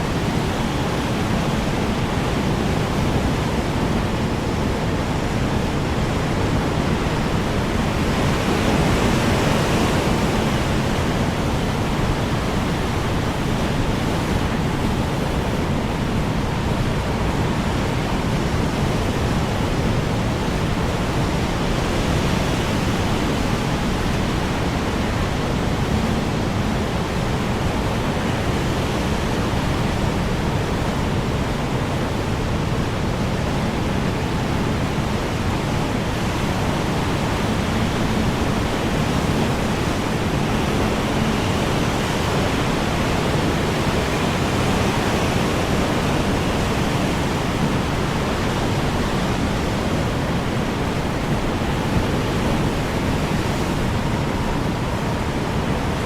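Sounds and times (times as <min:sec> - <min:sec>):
strong wind blowing: 0:00.0 - 0:56.0.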